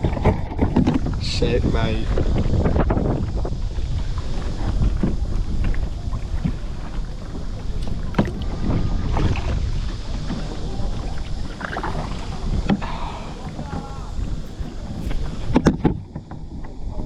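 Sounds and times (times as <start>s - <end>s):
wind buffeting microphone: 0.0s - 17.0s
kayak paddle splashing: 2.1s - 17.0s.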